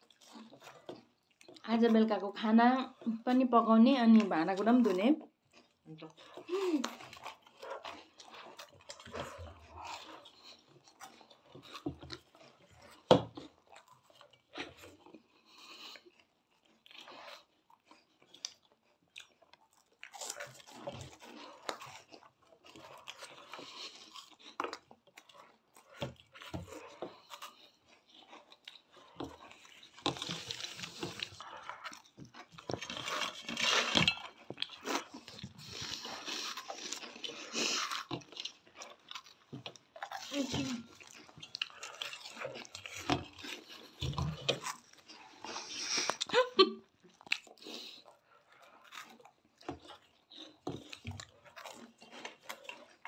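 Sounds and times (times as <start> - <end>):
people crunching cheese balls: 0.0 - 53.0.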